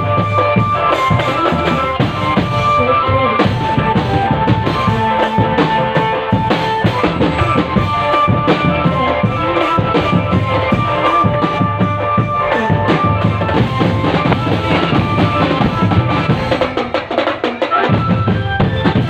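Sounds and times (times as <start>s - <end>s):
marching snare and bass drums: 0.0s - 19.0s
melody of held notes: 0.0s - 19.0s.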